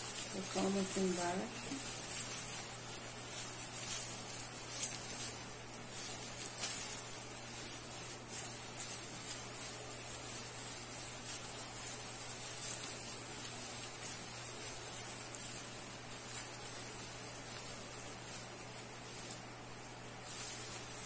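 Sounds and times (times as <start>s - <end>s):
plastic tinsel rustling: 0.0s - 21.0s
steady high hiss: 0.0s - 21.0s.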